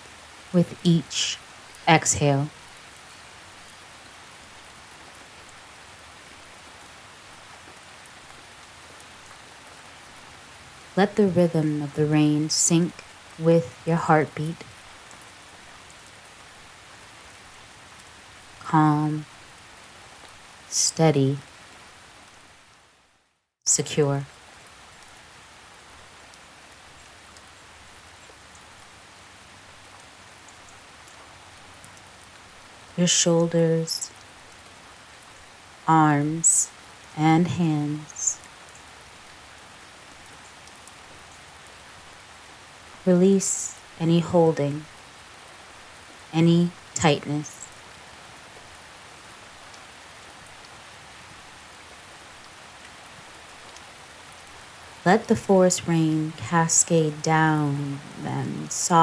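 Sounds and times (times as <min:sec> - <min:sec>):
rain pattering on leaves: 0:00.0 - 0:13.9, 0:14.5 - 0:20.8, 0:21.4 - 0:23.1, 0:24.2 - 0:33.0, 0:33.9 - 0:37.2, 0:37.8 - 0:44.0, 0:44.8 - 0:59.0.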